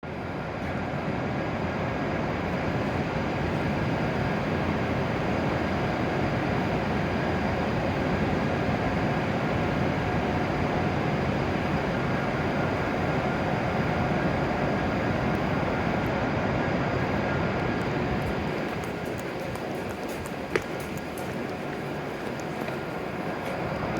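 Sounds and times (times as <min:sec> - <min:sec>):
train rumble and hum: 0:00.0 - 0:23.9.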